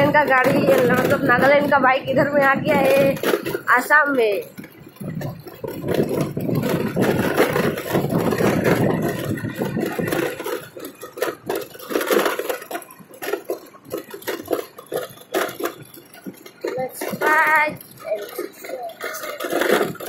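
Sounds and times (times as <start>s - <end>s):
knocks and rattles over pavers: 0.0s - 20.0s
motorbike engine: 0.0s - 20.0s.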